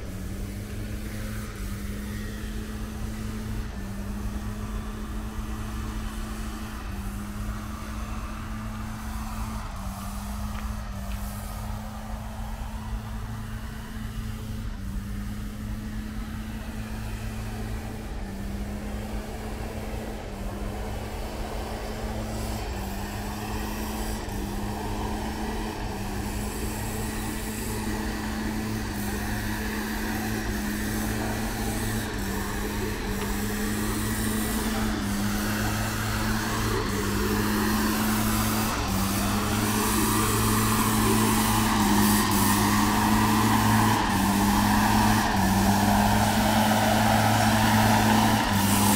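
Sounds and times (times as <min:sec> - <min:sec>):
motor engine humming: 0:00.0 - 0:48.9.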